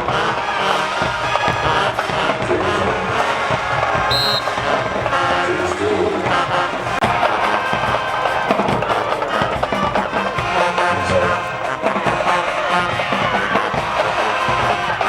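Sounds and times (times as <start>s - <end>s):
crowd noise: 0.0s - 15.0s
loud music with drums: 0.0s - 15.0s.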